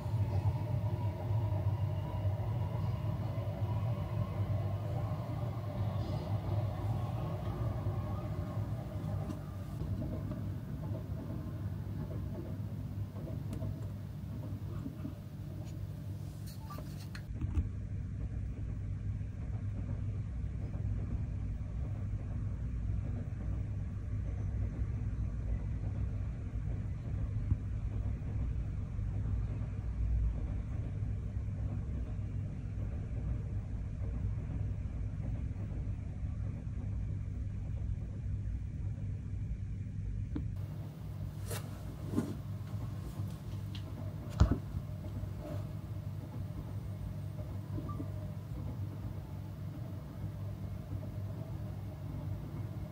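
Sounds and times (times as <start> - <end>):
muffled city and rail traffic rumble: 0.0 - 52.9.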